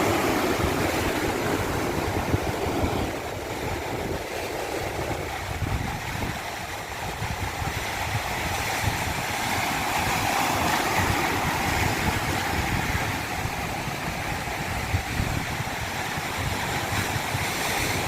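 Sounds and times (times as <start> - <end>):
deep water rumble: 0.0 - 18.0
stream rushing down cascade: 0.0 - 18.0.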